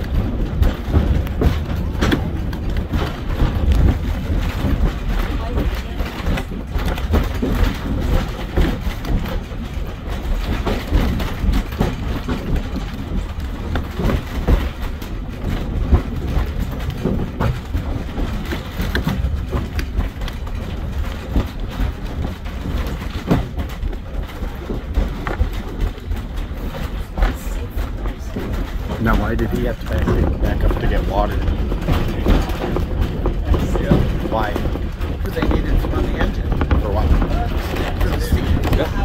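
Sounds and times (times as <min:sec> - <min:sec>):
train clacks and rattles: 0:00.0 - 0:39.0
wheels rumbling on rail: 0:00.0 - 0:39.0.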